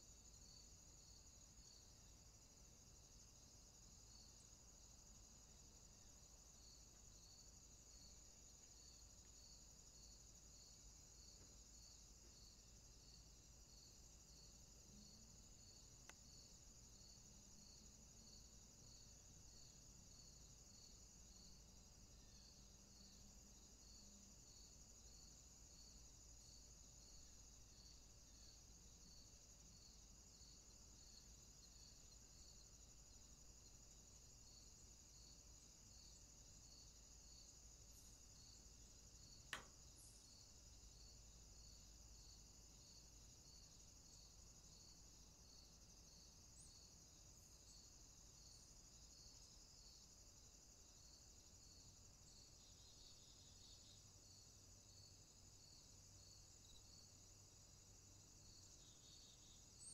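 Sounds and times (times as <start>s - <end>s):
insect chirp: 0.0s - 59.9s
insect chorus trilling: 4.1s - 59.9s.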